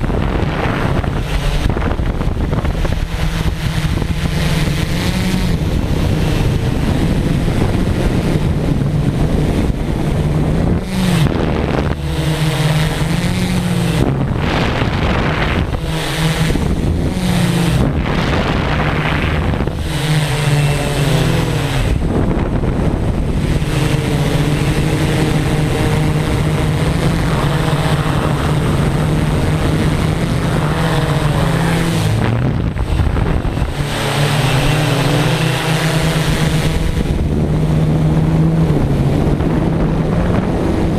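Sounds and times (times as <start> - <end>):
drone propellers buzzing: 0.0 - 40.9
wind noise on microphone: 0.0 - 40.9.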